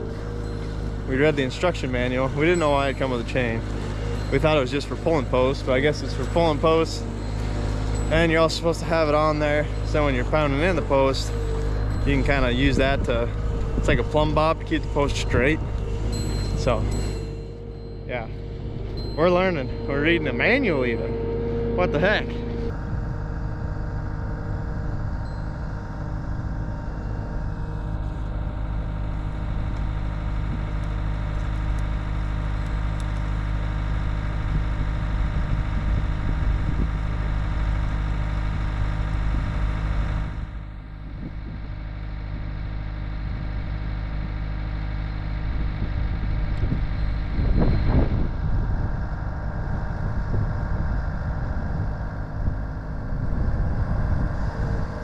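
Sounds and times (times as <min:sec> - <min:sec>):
machine engine running: 0:00.0 - 0:55.0.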